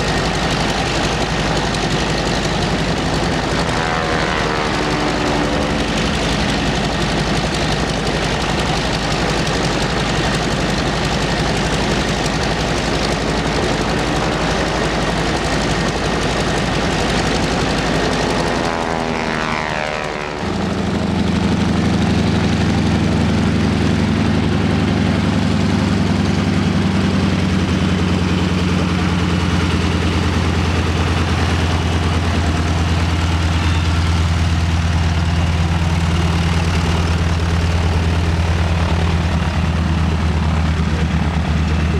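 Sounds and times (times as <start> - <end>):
aircraft passing with roar: 0.0 - 41.9
low engine drone: 0.0 - 41.9.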